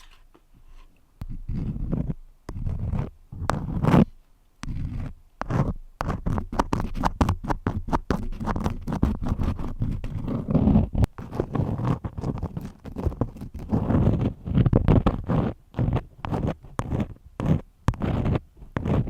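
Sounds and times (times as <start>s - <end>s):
crayons scratching and scraping: 0.0s - 19.0s.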